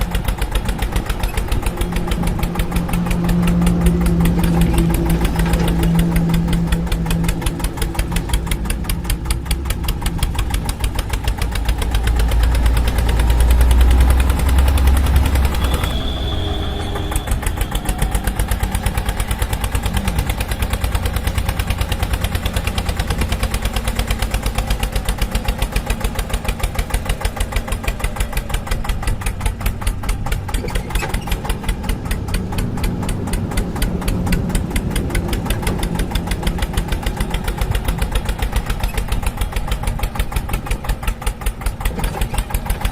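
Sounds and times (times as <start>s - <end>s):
deep rumble: 0.0s - 41.8s
tractor engine chugging: 0.0s - 42.9s.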